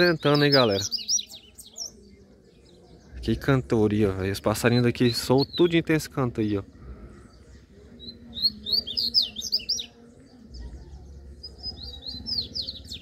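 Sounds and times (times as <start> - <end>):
twittering bird song: 0.0 - 13.0.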